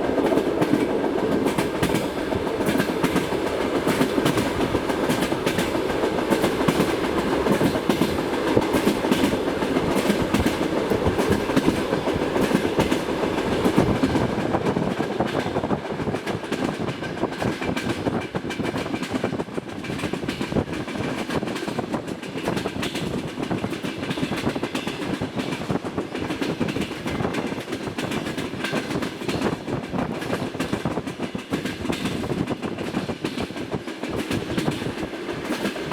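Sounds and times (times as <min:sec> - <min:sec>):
train wheels clattering on rails: 0:00.0 - 0:35.9.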